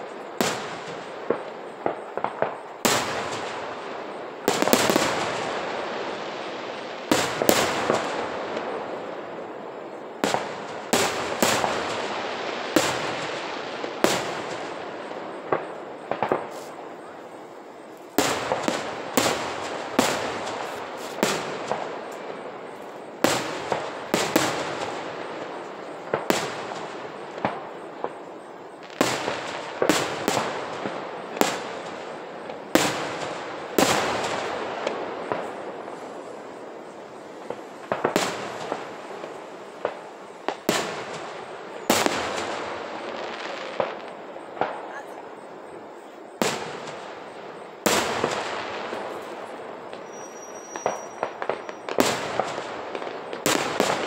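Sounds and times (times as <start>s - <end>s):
fireworks booming: 0.0s - 54.0s.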